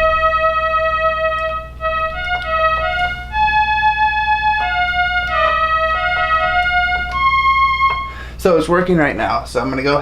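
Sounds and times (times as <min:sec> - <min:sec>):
electronic keyboard organ notes: 0:00.0 - 0:08.6.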